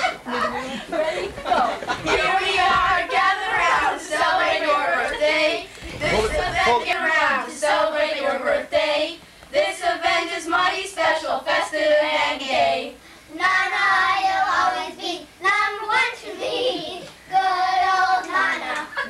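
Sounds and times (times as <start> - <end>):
children singing: 1.3 - 18.9.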